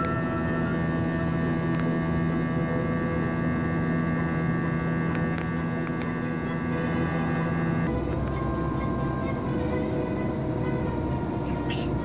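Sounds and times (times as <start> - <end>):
jet engines droning: 0.0 - 12.0
steady humming tones: 0.0 - 12.0.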